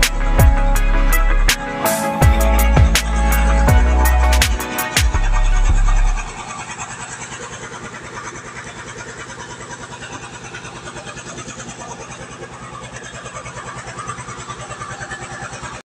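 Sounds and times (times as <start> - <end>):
small engine chugging: 2.2 - 15.8.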